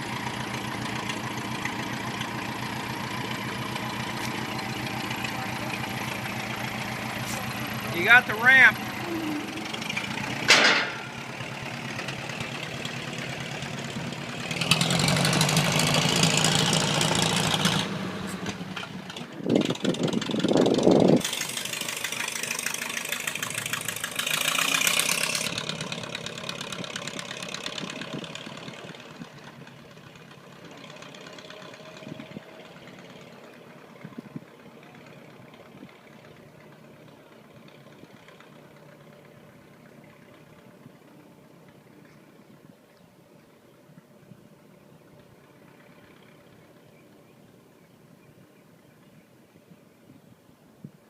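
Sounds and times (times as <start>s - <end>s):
old truck engine running: 0.0s - 42.6s, 44.9s - 47.7s.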